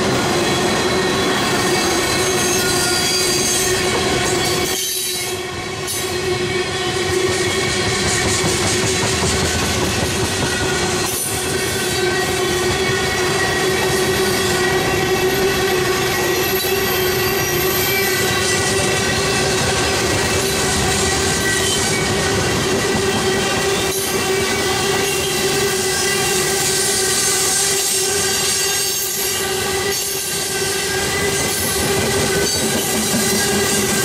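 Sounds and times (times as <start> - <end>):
freight train rumbling: 0.0 - 34.0
high-pitched wheel squeal: 0.2 - 34.0.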